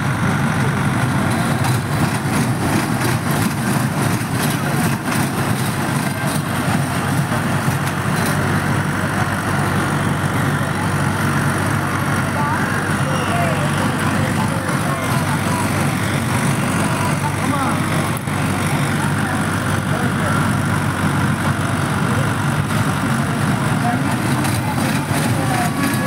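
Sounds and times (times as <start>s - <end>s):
train ride cars rattling: 0.0s - 26.0s.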